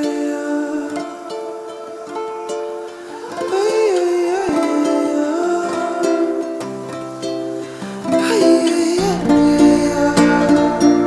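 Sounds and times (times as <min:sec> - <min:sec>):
plucked acoustic guitar chords: 0:00.0 - 0:11.0
steady held notes: 0:00.0 - 0:11.0.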